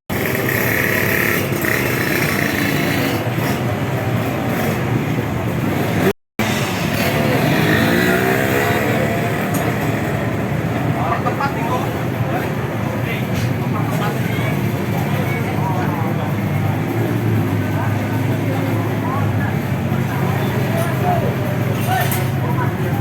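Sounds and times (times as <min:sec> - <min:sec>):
motorcycle engines revving: 0:00.1 - 0:23.0.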